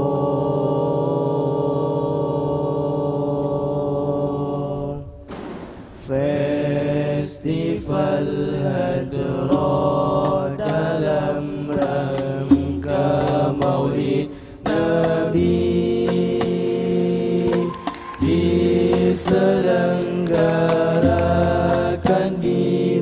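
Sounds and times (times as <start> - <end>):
men singing devotional chant: 0.0 - 5.1, 6.0 - 23.0.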